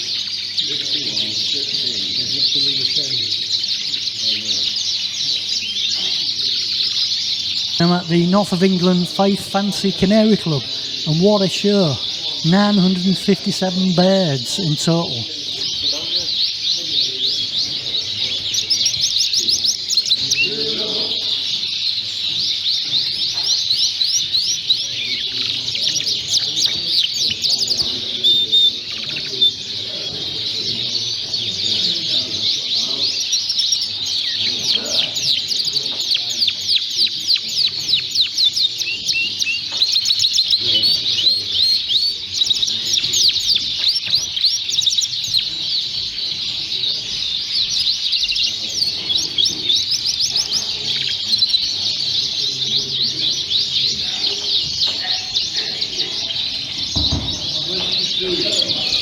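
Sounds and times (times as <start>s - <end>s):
canaries singing and chirping: 0.0s - 59.0s
murmur of voices: 0.0s - 59.0s.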